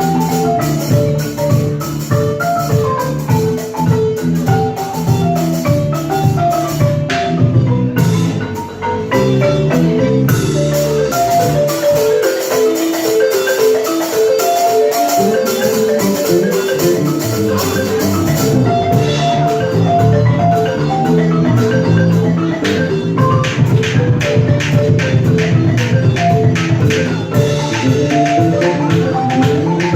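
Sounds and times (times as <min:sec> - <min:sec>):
percussion strokes: 0:00.0 - 0:29.9
wooden xylophone melody: 0:00.0 - 0:29.9.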